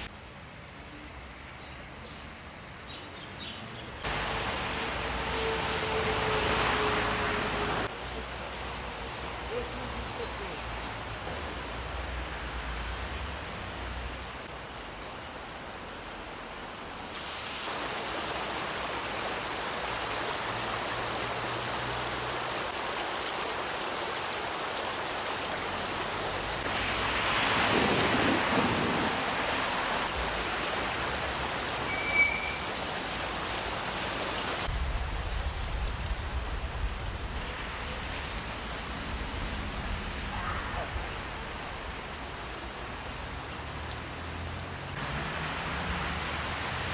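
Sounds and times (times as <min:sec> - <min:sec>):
heavy rain and running floodwater: 0:00.0 - 0:01.4, 0:03.8 - 0:46.9.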